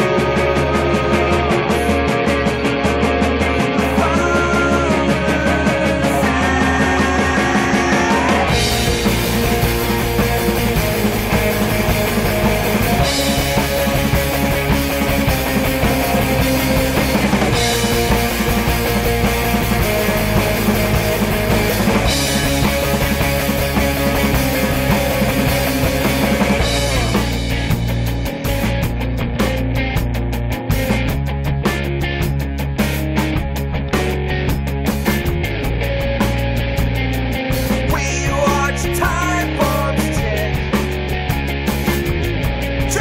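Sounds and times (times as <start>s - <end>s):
drum kit: 0.0s - 43.0s
guitars playing driving beat: 0.0s - 43.0s.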